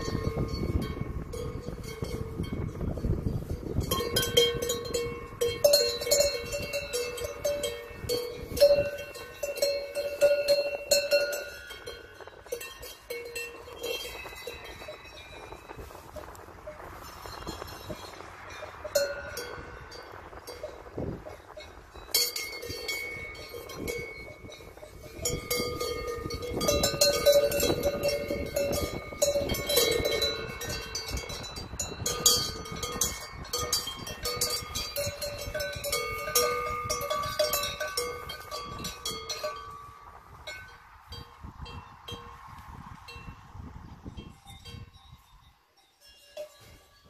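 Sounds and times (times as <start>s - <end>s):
cow bells clanking: 0.0s - 43.4s, 44.0s - 47.0s.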